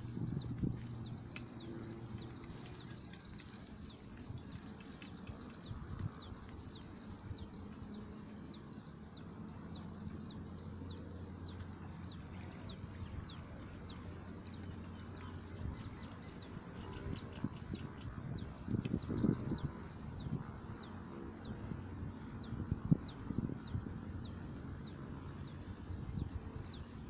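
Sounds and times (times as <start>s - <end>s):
insect chorus: 0.0s - 23.0s, 24.2s - 27.0s
wind rumble on microphone: 0.0s - 27.0s.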